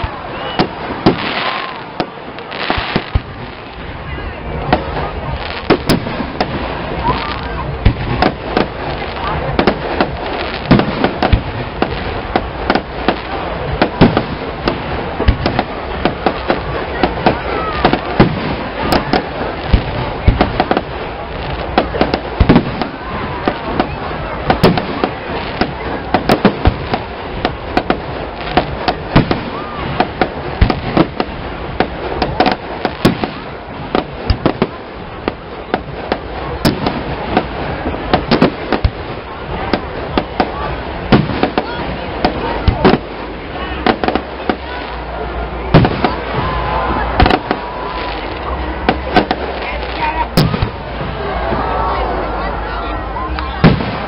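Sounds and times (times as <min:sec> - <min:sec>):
fireworks bangs and crackles: 0:00.0 - 0:54.0
steady background noise: 0:00.0 - 0:54.0.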